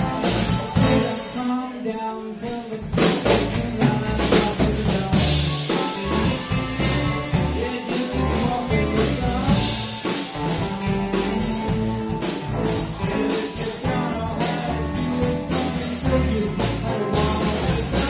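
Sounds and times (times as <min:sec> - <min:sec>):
upright bass: 0:00.0 - 0:01.5, 0:02.4 - 0:18.0
blues harmonica: 0:00.0 - 0:01.8, 0:03.3 - 0:18.0
electric guitars: 0:03.3 - 0:18.0.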